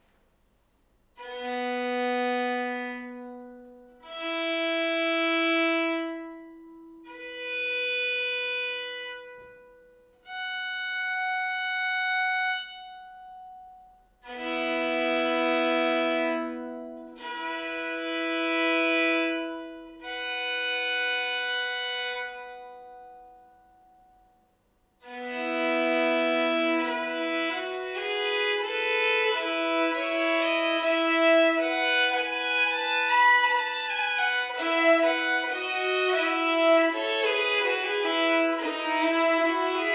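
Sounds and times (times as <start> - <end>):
fiddle bowed chords: 1.2 - 9.6, 10.3 - 13.3, 14.2 - 23.0, 25.0 - 39.9
fiddle melody: 1.2 - 9.6, 10.3 - 13.2, 14.2 - 23.0, 25.0 - 39.9.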